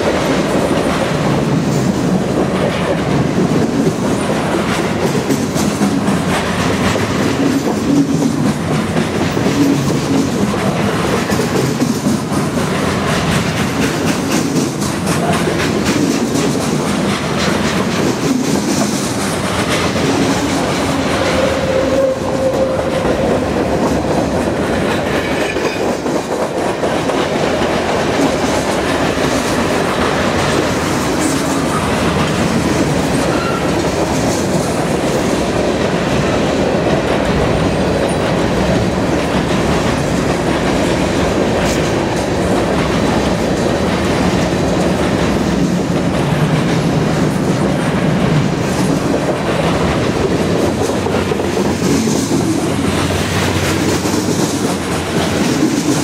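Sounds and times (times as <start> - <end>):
steel wheels rumbling on rail: 0.0 - 56.0
wheels clicking over rail joints: 0.0 - 56.0.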